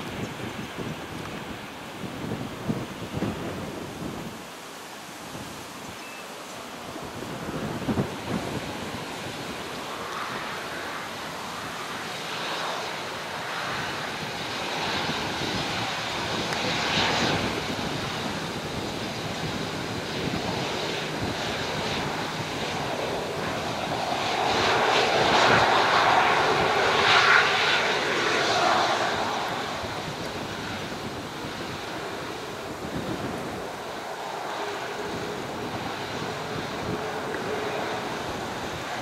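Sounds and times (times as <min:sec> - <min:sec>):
jet engines rushing: 0:00.0 - 0:39.0
faint engine whine: 0:05.9 - 0:39.0.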